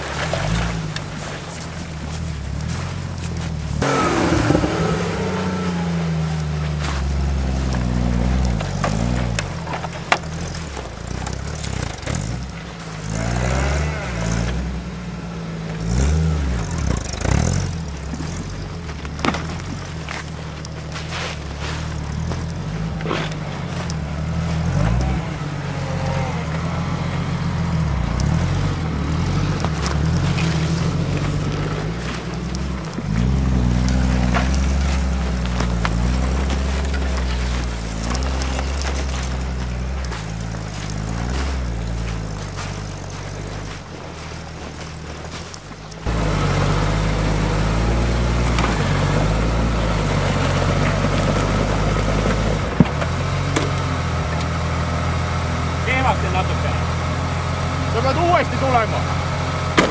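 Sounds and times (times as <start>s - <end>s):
engine revving hard: 0.0s - 59.9s.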